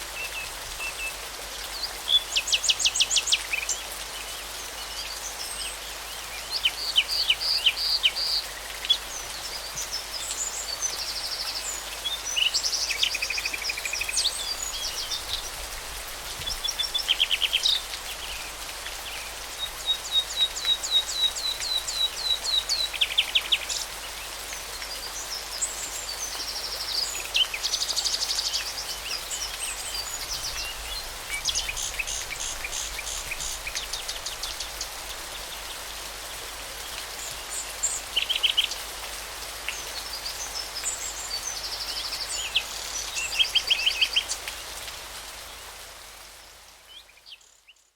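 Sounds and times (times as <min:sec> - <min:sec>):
songbirds singing: 0:00.1 - 0:47.9.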